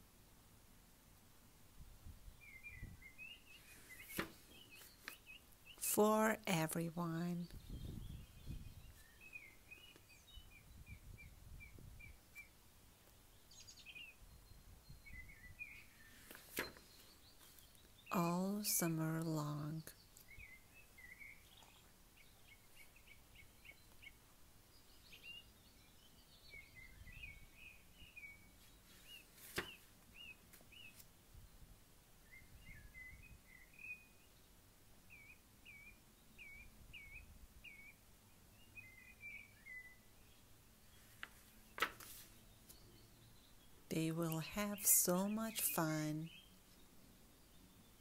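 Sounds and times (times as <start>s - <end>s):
birds chirping: 2.4s - 31.0s, 32.2s - 48.0s.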